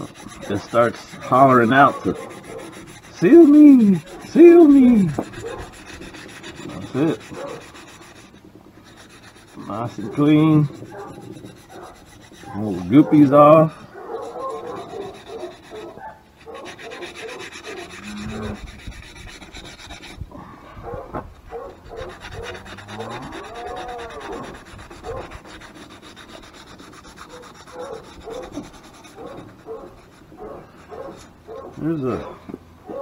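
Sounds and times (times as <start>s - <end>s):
cloth rubbing on metal: 0.0s - 20.2s, 21.5s - 32.4s.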